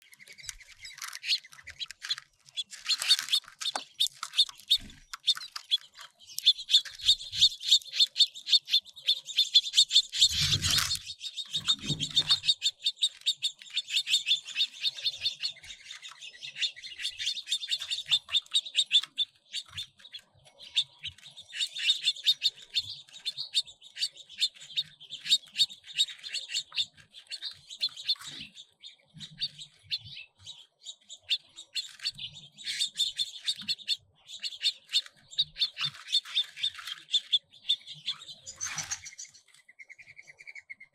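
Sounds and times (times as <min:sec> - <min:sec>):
finches chirping: 0:00.0 - 0:40.9.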